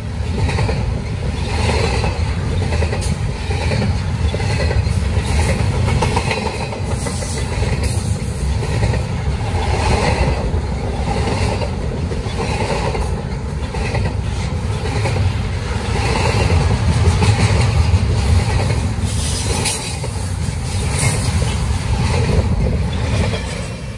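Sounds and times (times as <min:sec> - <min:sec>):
steel wheels on rail: 0:00.0 - 0:23.9.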